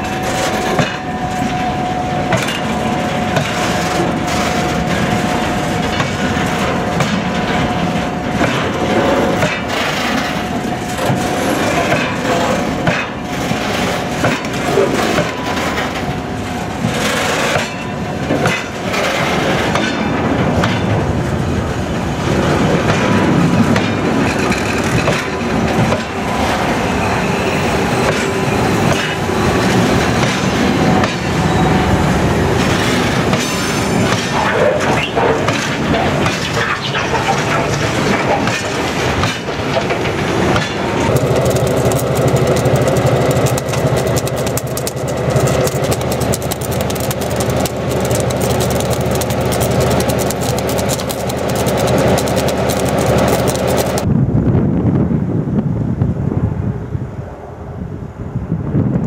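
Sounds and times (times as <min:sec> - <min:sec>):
freight train wheels clattering: 0:00.0 - 0:54.1.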